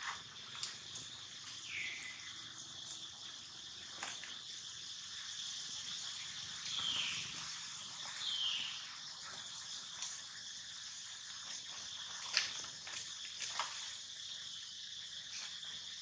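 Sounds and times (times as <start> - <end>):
high-pitched insect drone: 0.0 - 12.1, 13.0 - 16.0.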